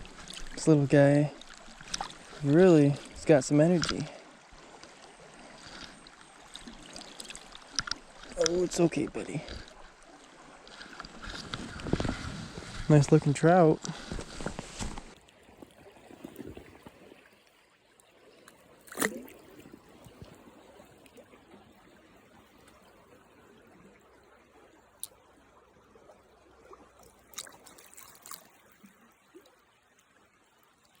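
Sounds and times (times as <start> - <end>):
water trickling faintly: 0.0 - 31.0.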